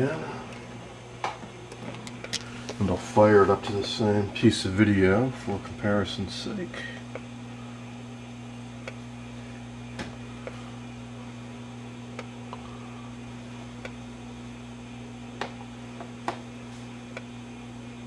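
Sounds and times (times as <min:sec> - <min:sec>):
television low hum: 0:00.0 - 0:18.0.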